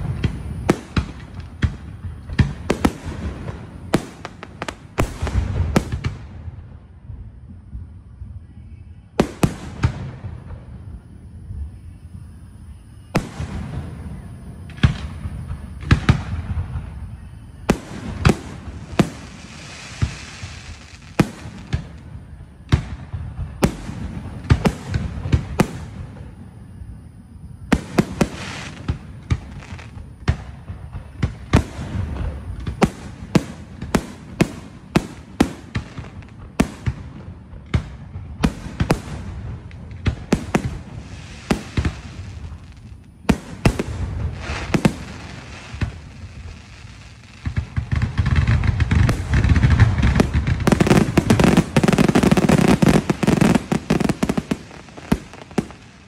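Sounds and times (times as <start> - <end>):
firework bangs: 0.0 - 6.6, 13.1 - 26.5, 27.7 - 56.0
firework crackle: 0.0 - 7.0, 12.9 - 56.0.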